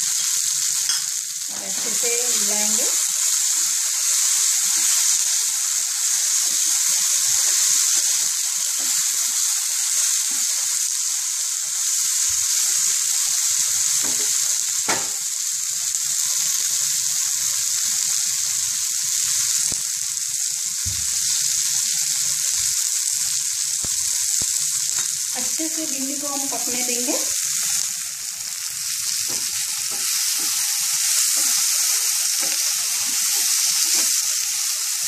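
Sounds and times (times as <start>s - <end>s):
okra sizzling in oil: 0.0s - 35.0s.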